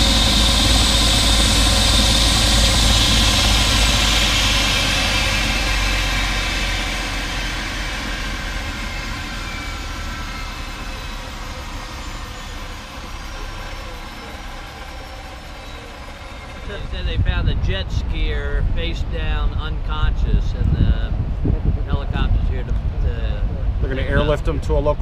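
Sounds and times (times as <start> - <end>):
helicopter turbine and rotor: 0.0 - 25.0.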